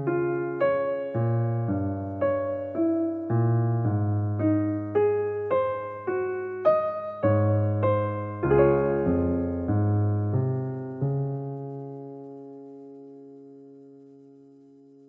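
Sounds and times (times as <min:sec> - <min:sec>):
slow electric piano melody: 0:00.0 - 0:15.0.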